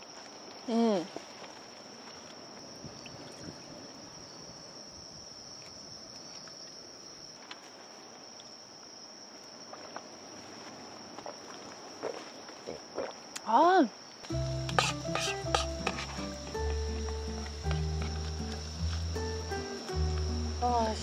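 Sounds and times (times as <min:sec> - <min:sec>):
crickets chirping: 0:00.0 - 0:21.0
faint outdoor hiss: 0:00.0 - 0:21.0.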